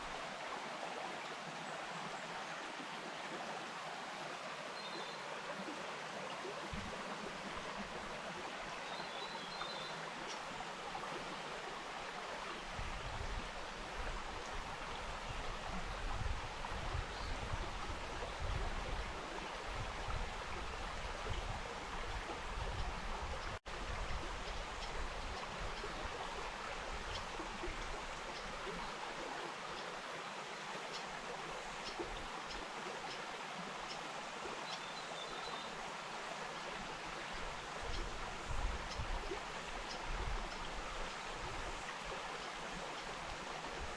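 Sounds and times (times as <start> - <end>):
stream flowing and splashing: 0.0 - 43.9.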